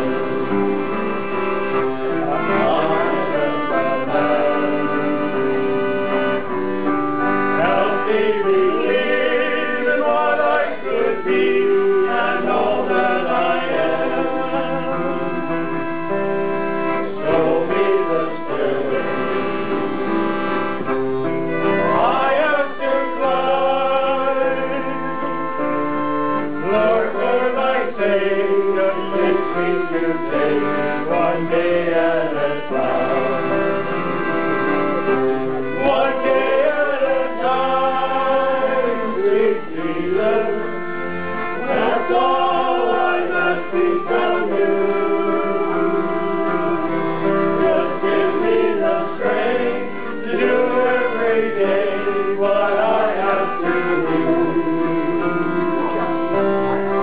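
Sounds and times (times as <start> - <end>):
accordion chords: 0.0 - 57.0
men singing together: 2.2 - 6.0, 7.6 - 15.7, 17.2 - 19.8, 21.8 - 25.1, 26.6 - 34.0, 35.8 - 56.4.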